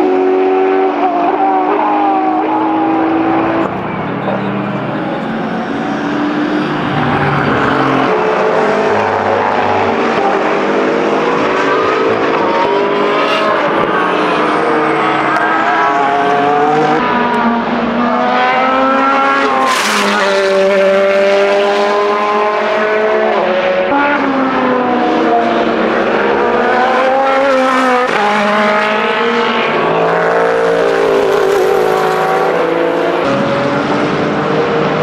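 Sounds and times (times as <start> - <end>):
race car engines accelerating: 0.0 - 35.0.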